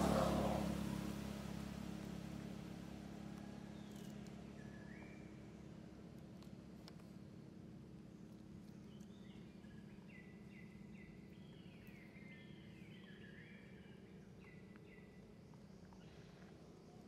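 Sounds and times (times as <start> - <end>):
faint bird song: 0.0 - 17.0
low steady background hum: 0.0 - 17.0.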